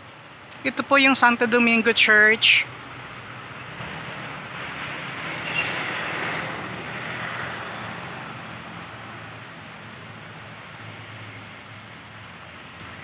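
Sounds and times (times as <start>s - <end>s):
road vehicle passing: 0.6s - 13.0s.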